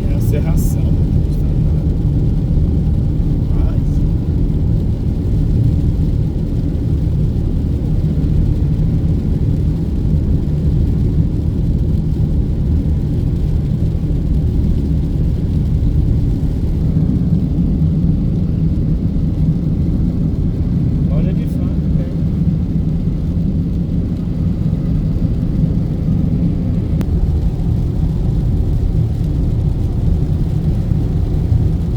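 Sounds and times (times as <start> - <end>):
car engine: 0.0 - 31.9
road noise: 0.0 - 31.9.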